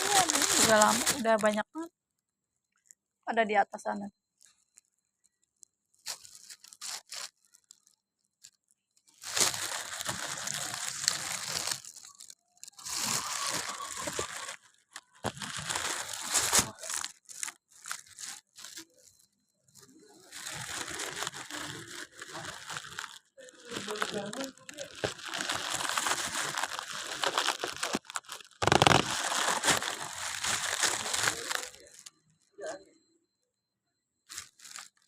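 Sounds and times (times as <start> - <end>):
crinkly crunching rustle: 0.0 - 1.6, 5.6 - 32.5, 34.3 - 35.0.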